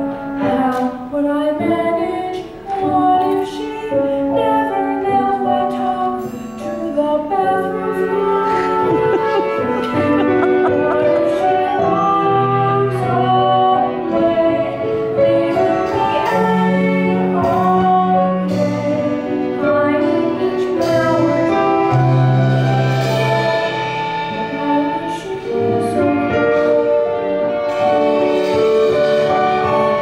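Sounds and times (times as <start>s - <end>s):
instrumental accompaniment: 0.0s - 30.0s
boy singing: 0.4s - 22.3s, 23.0s - 30.0s.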